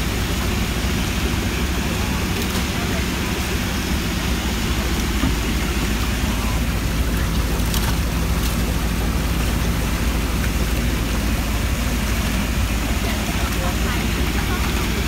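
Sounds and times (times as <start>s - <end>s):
boat engine idling: 0.0s - 15.0s
water splashing: 0.0s - 15.0s.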